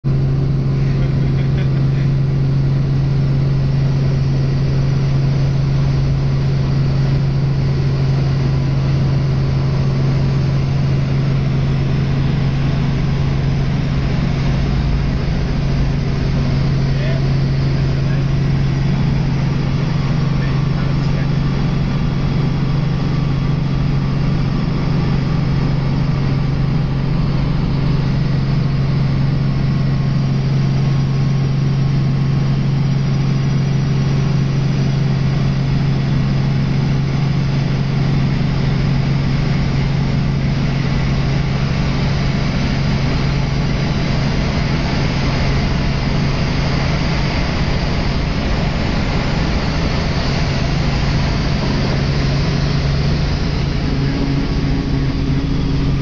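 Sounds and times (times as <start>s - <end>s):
helicopter engine and rotor: 0.1s - 56.0s.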